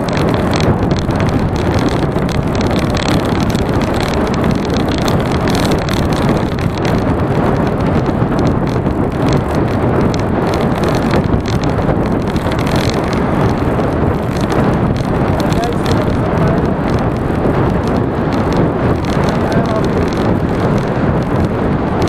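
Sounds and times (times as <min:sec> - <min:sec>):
bicycle road rumble: 0:00.0 - 0:22.0
wind buffeting microphone: 0:00.0 - 0:22.0
wind rush: 0:00.0 - 0:22.0.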